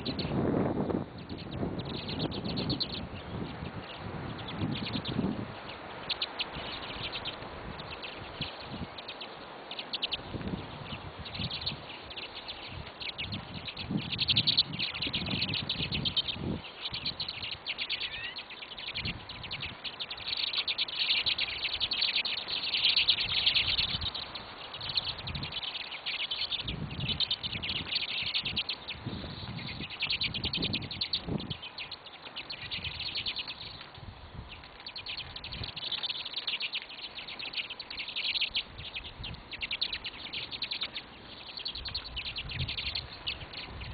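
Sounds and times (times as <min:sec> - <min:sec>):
small birds chirping and twittering: 0:00.0 - 0:43.9.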